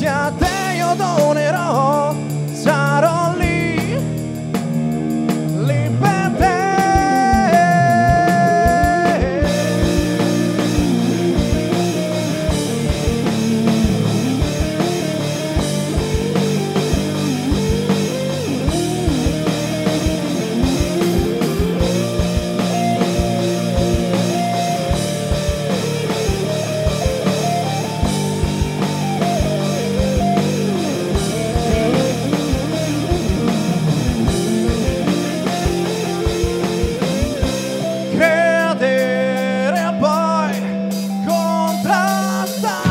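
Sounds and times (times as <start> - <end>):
drum kit beat: 0.0 - 42.9
gliding electric guitar lead: 0.0 - 42.9.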